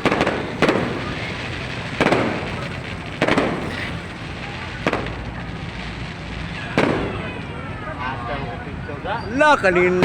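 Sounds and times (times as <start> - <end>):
fireworks bangs: 0.0 - 8.8.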